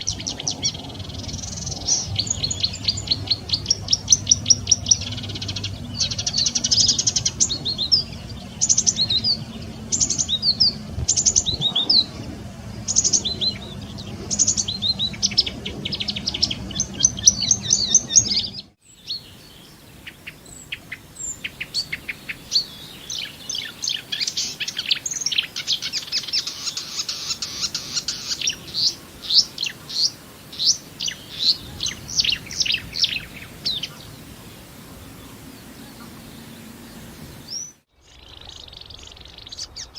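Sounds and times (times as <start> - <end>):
warbler singing rapid chirps: 0.0 - 39.9.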